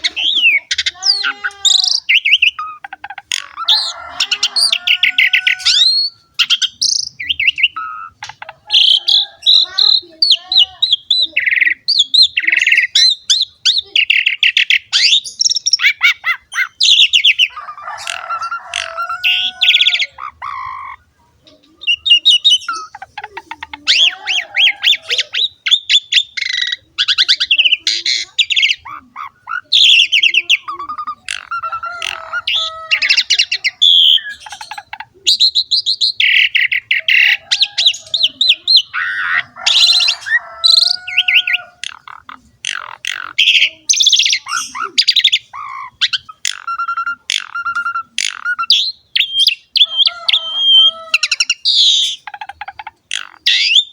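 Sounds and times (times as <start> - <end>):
starling singing: 0.0 - 53.9.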